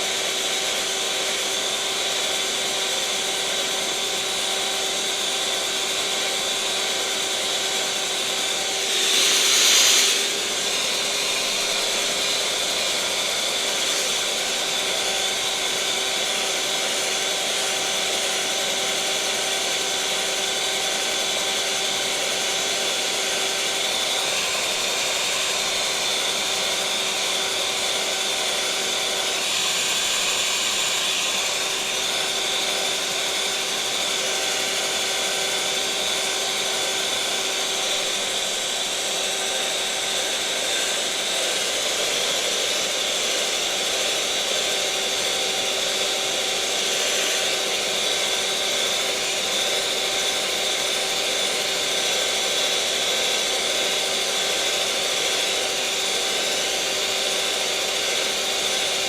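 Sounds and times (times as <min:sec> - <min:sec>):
electric mixer motor running: 0:00.0 - 0:59.0.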